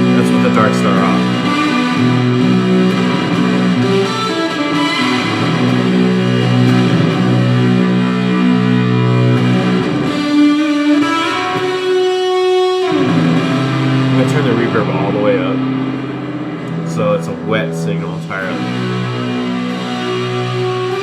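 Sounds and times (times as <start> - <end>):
fuzz electric guitar chords: 0.0 - 21.0.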